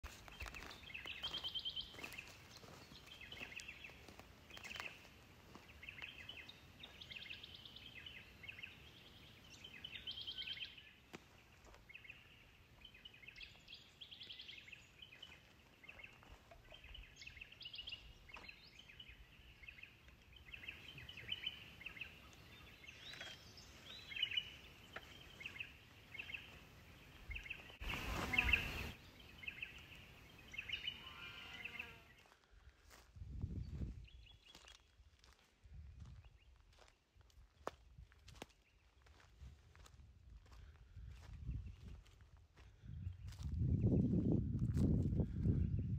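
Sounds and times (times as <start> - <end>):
birds chirping and singing: 0.2 - 36.9, 38.3 - 45.9.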